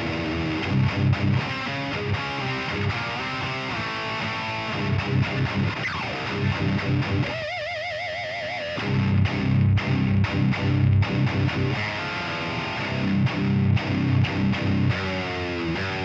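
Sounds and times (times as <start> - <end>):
distorted electric guitar metal riff: 0.0 - 16.0.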